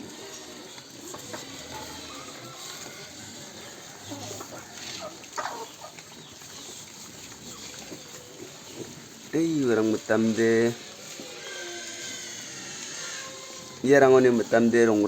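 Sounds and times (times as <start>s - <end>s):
background hiss: 0.0s - 15.0s
farm animals crying: 0.0s - 15.0s.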